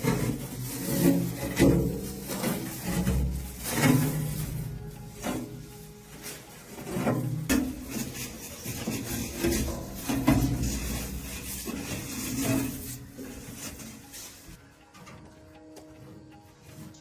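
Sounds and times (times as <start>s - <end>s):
rubbing and scraping: 0.0s - 14.6s.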